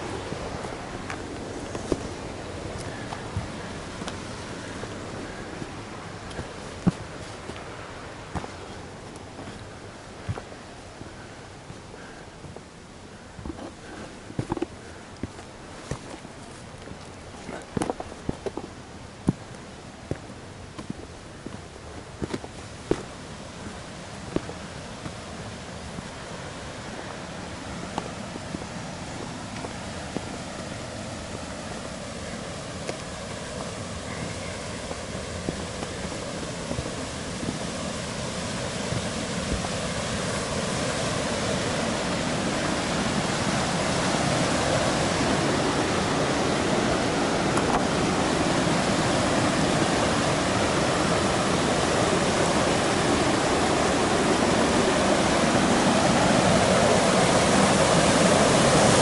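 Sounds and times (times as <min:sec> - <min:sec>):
footsteps on trail: 0:00.0 - 0:53.8
river rapids rushing: 0:00.0 - 0:59.0.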